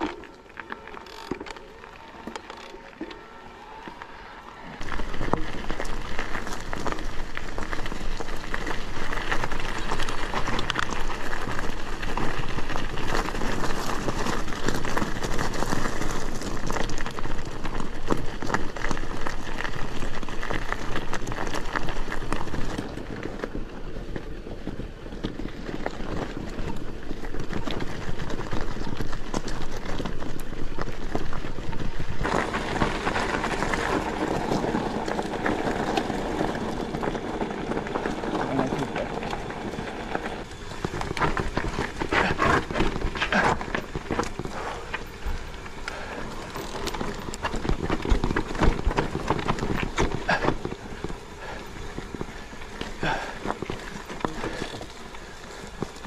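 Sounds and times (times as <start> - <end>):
bike rattling: 0.0 - 56.0
tyres crunching over stones: 0.0 - 56.0.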